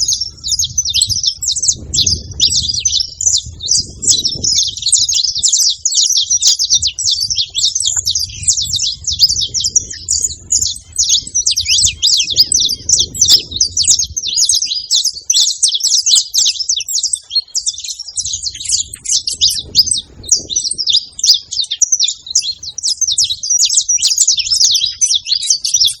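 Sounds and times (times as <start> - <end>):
finches chirping: 0.0 - 26.0.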